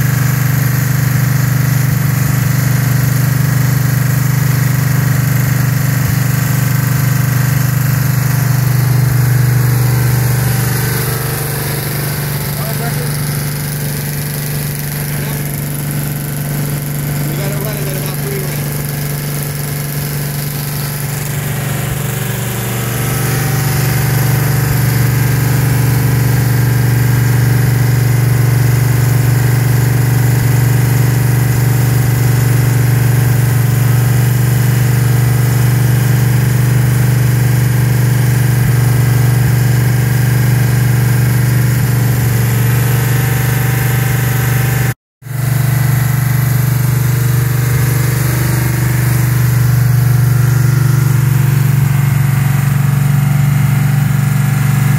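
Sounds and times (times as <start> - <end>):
vee eight engine running above idle: 0.0 - 54.9.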